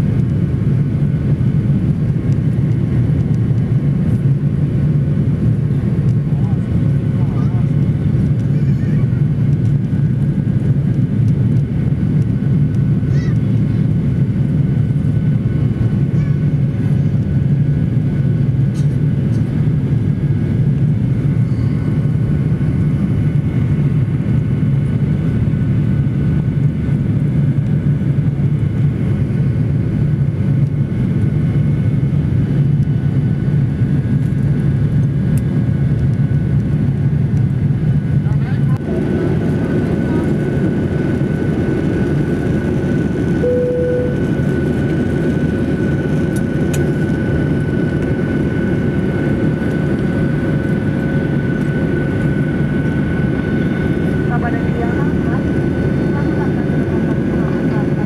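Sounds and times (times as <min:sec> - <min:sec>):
jet engine cabin drone: 0:00.0 - 0:58.0.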